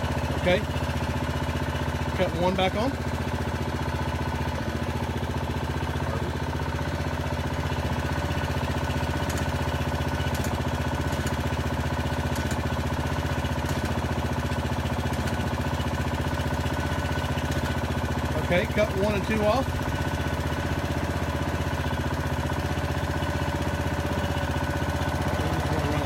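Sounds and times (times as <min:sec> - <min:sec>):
small pump engine running: 0:00.0 - 0:26.0.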